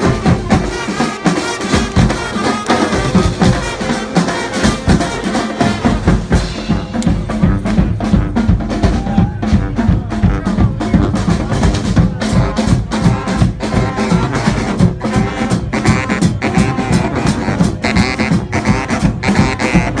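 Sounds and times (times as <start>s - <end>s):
bass drum and snare beat: 0.0s - 20.0s
brass marching band: 0.0s - 20.0s.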